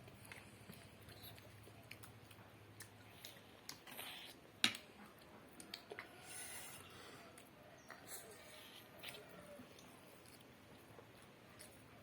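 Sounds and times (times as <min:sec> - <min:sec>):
eating sounds: 0:00.0 - 0:12.0.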